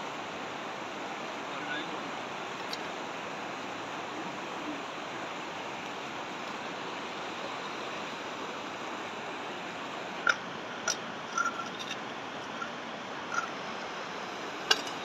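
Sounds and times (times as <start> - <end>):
river running over stones: 0.0 - 15.0.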